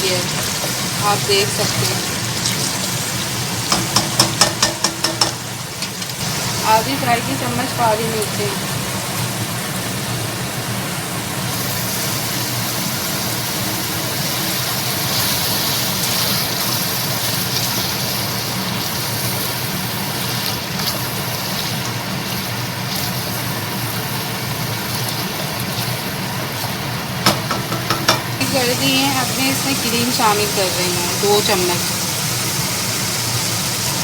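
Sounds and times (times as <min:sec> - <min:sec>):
food sizzling in a pot: 0:00.0 - 0:34.0.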